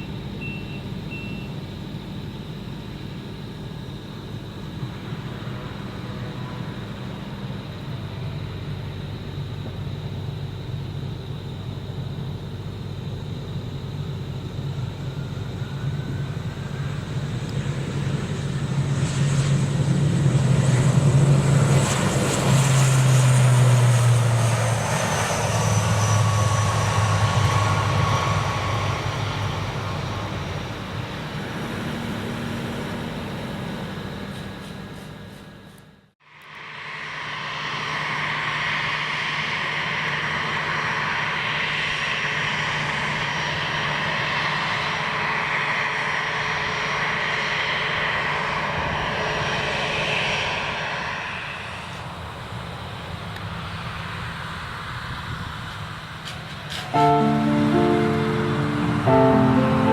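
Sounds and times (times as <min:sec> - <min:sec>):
jet airliner passing: 0:01.8 - 0:35.8, 0:36.4 - 0:59.9.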